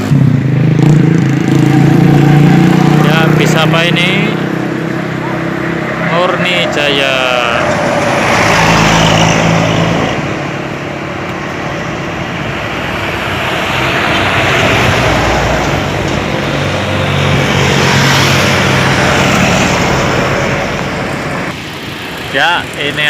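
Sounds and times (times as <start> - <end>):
heavy vehicles passing on highway: 0.0 - 23.0.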